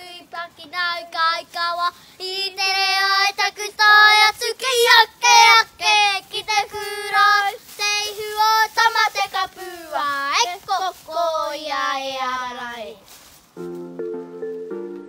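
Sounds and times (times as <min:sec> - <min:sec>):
girls singing: 0:00.0 - 0:12.9.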